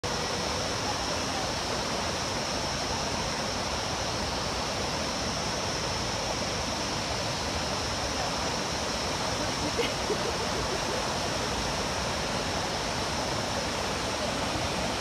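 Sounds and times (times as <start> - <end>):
whitewater river rushing: 0.0 - 15.0.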